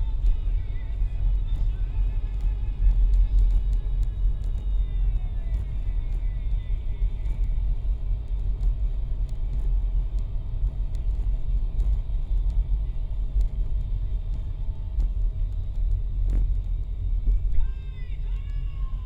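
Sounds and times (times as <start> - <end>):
car engine in motion: 0.0 - 19.0
road traffic rumble: 0.0 - 19.0.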